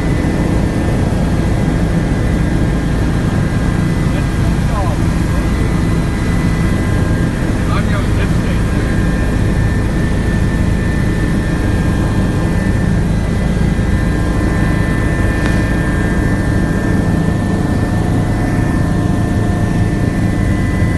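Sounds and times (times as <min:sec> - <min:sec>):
helicopter rotor and engine: 0:00.0 - 0:20.9
high whine: 0:00.0 - 0:20.9.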